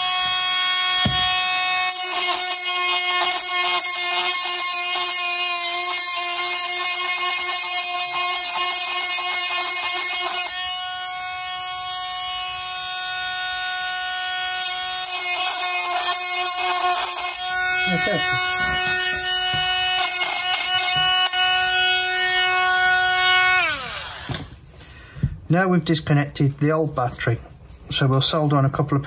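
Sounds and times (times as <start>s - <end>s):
rotary tool grinding whine: 0.0s - 24.6s.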